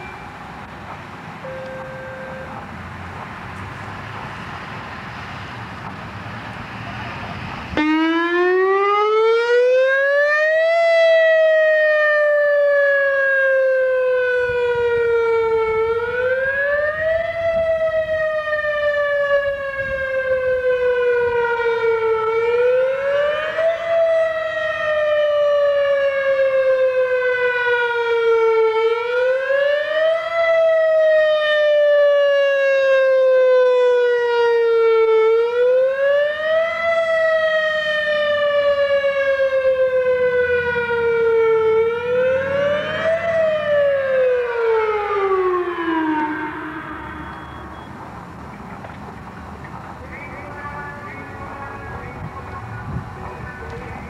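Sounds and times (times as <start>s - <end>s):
tornado siren wailing: 0.0s - 0.7s, 1.4s - 2.7s, 6.8s - 48.9s.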